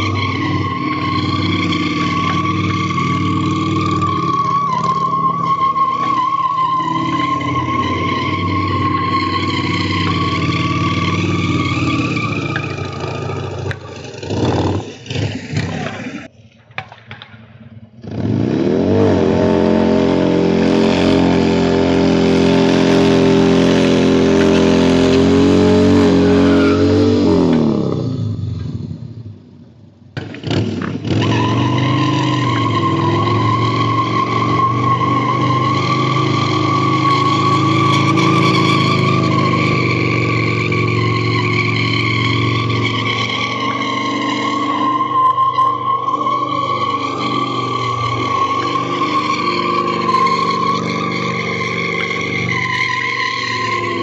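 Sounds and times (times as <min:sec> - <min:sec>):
motorcycle engine revving: 0:00.0 - 0:16.3, 0:17.9 - 0:29.5, 0:30.1 - 0:54.0.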